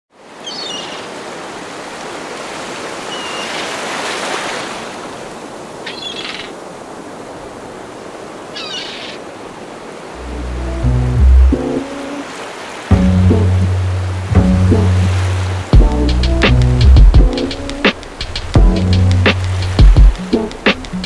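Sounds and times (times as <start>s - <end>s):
ocean surf washing: 0.1s - 21.0s.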